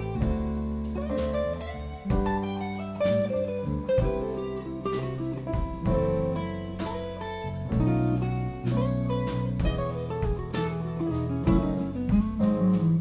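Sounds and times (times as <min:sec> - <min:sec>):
drum kit beat: 0:00.0 - 0:13.0
electric bass: 0:00.0 - 0:13.0
electric guitar lead: 0:00.0 - 0:13.0.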